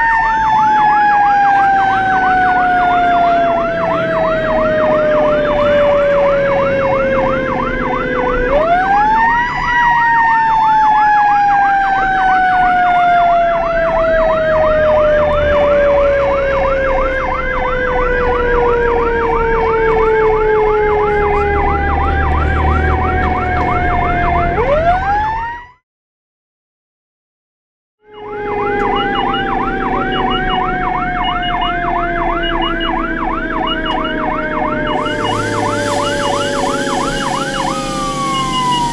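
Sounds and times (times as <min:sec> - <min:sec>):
engine and road rumble: 0:00.0 - 0:25.7, 0:28.2 - 0:38.9
electronic siren yelping: 0:00.0 - 0:25.8, 0:28.0 - 0:38.9.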